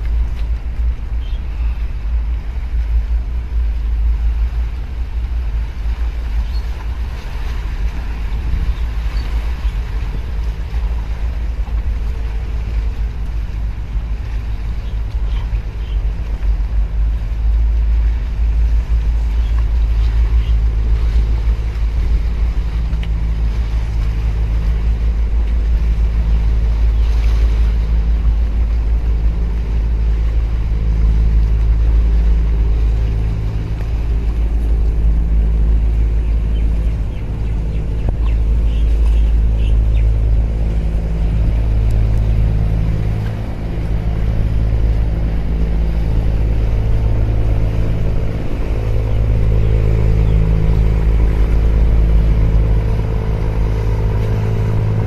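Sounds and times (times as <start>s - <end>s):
ship machinery drone: 0.0s - 55.0s
wind rumble on microphone: 0.0s - 55.0s.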